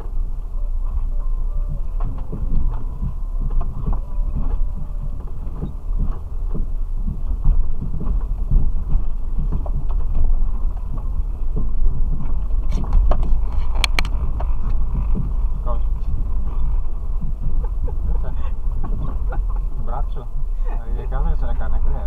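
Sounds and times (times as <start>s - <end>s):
engine drone inside vehicle: 0.0s - 22.0s
vehicle knocks and thuds: 0.0s - 22.0s.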